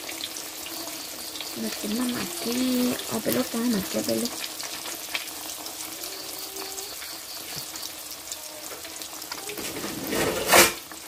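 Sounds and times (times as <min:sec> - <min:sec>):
patties sizzling in hot oil: 0:00.0 - 0:11.0.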